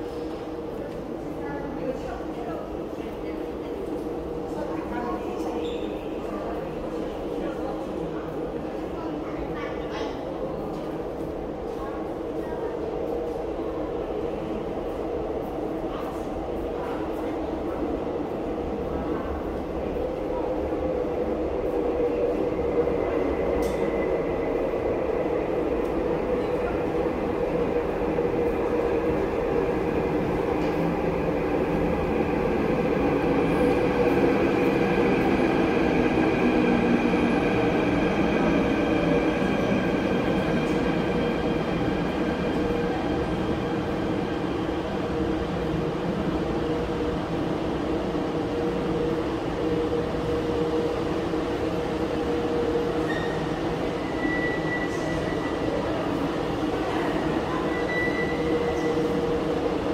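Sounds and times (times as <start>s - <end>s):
subway train rumbling and whining: 0.0s - 59.9s.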